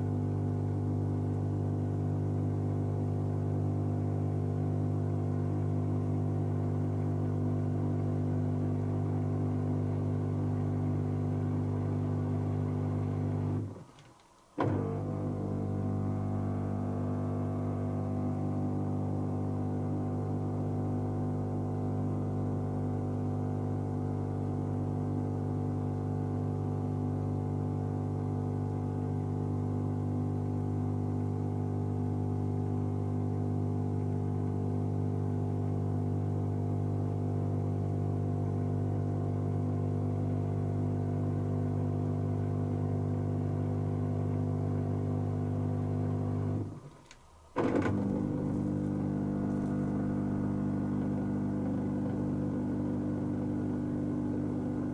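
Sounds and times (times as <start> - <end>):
washing machine motor hum: 0.0 - 54.9.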